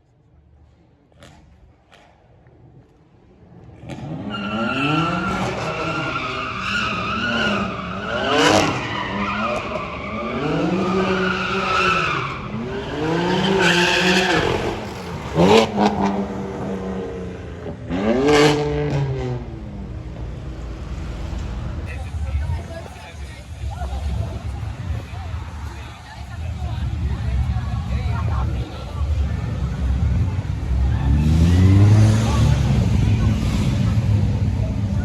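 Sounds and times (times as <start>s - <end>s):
car engine revving: 3.8s - 25.6s, 26.6s - 35.0s.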